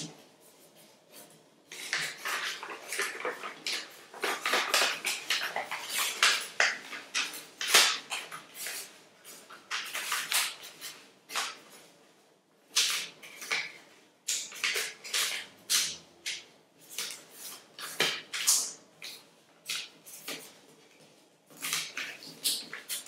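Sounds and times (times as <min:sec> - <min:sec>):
paper being folded: 0:00.5 - 0:11.8, 0:12.7 - 0:23.0.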